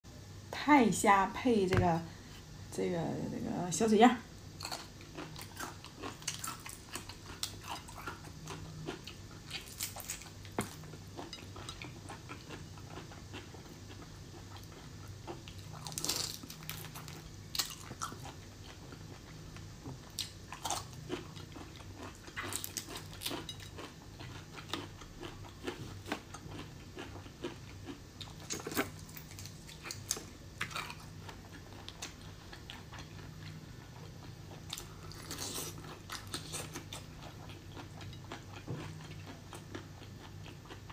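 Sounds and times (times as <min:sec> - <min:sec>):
chewing and biting: 0:04.6 - 0:18.4, 0:20.2 - 0:40.9.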